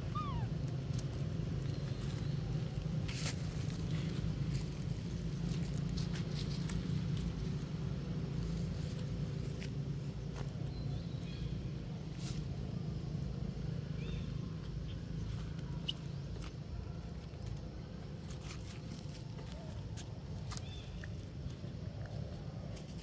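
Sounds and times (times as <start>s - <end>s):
dry leaves crackling: 0.0s - 23.0s
steady low hum: 0.0s - 23.0s.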